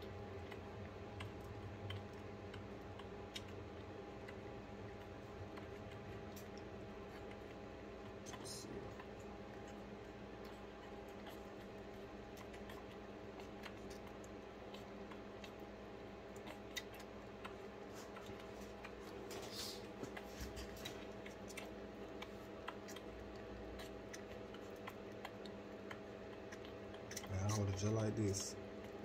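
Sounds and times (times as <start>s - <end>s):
steady low hum: 0.0s - 29.0s
puppy sucking from bottle: 5.0s - 29.0s.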